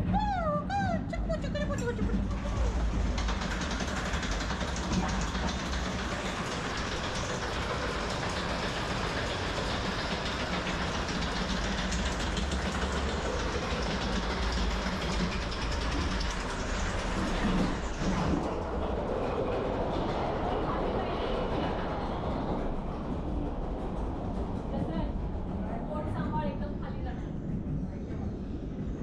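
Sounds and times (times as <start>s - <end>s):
ride train wheels rumbling on rails: 0.0s - 29.0s.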